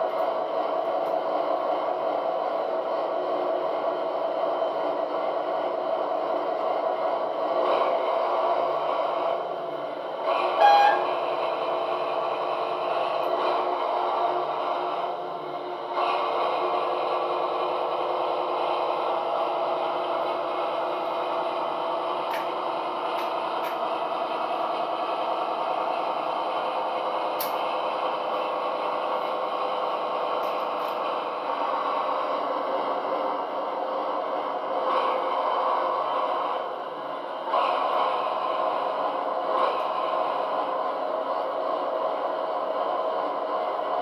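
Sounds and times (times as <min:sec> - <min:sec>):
model train rolling on track: 0:00.0 - 0:44.0.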